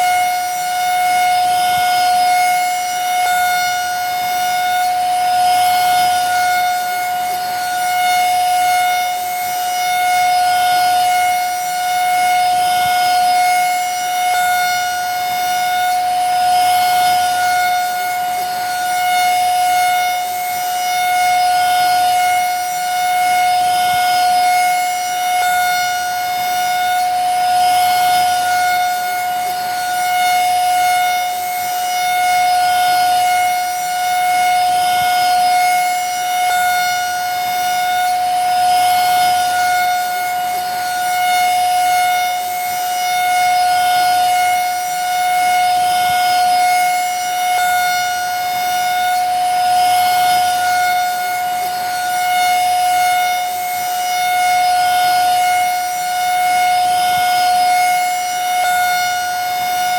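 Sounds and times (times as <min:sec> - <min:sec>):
vacuum cleaner motor whining: 0:00.0 - 0:59.9.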